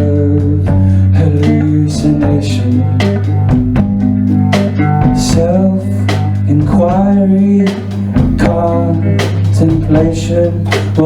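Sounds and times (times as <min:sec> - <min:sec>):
person singing: 0:00.0 - 0:03.6, 0:04.7 - 0:11.0
live guitar band playing: 0:00.0 - 0:11.0.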